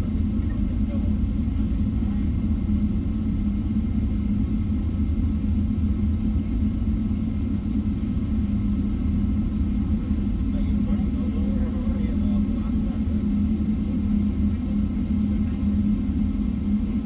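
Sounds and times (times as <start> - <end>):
airplane cabin rumble: 0.0 - 17.0
steady hum: 0.0 - 17.0.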